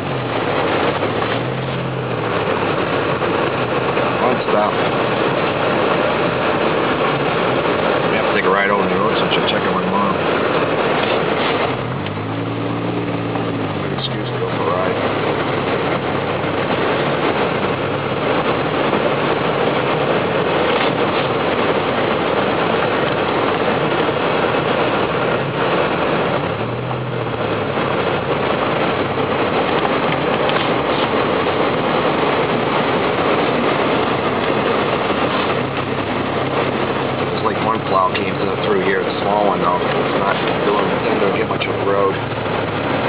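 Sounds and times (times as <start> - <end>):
truck engine hum: 0.0 - 43.0
tyres running through snow: 0.0 - 43.0.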